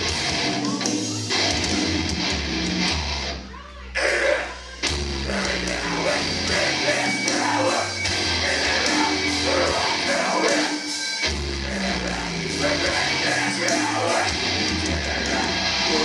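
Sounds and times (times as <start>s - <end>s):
heavy low bass notes: 0.0s - 3.4s, 4.0s - 10.6s, 11.2s - 16.0s
distorted electric guitar: 0.0s - 16.0s
live heavy metal band: 0.0s - 16.0s.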